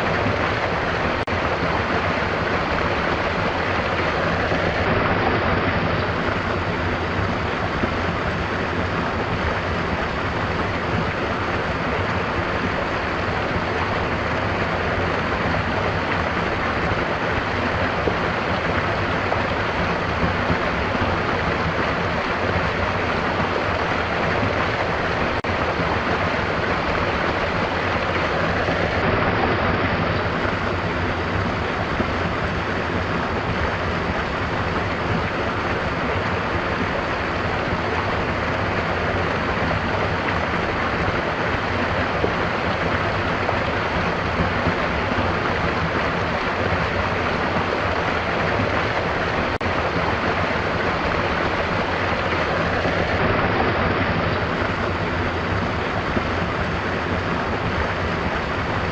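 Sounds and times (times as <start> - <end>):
stream of water flowing: 0.0 - 58.9.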